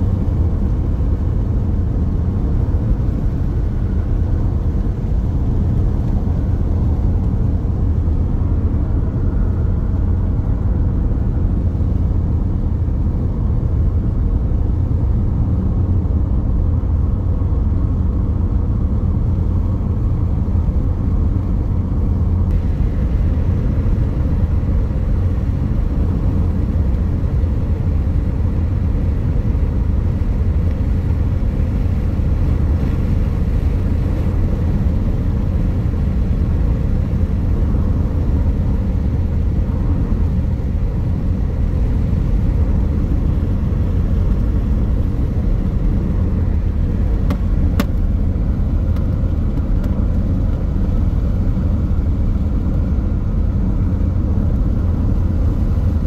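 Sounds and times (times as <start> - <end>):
car driving rumble: 0.0 - 56.0.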